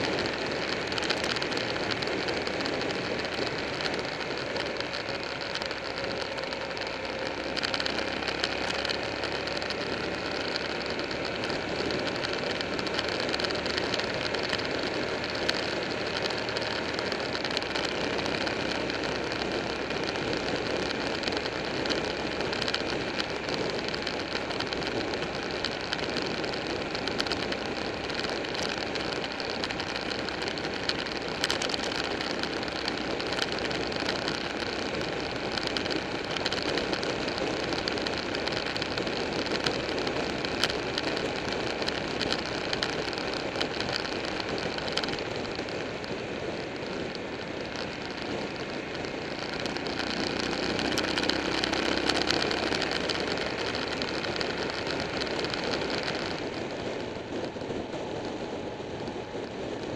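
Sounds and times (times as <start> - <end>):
motorcycle engine running: 0.0 - 59.9
wind rush over microphone: 10.9 - 59.9.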